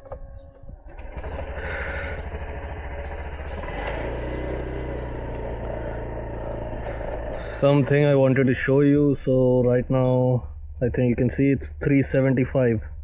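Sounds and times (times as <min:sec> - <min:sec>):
motor scooter engine idling: 0:00.0 - 0:12.0.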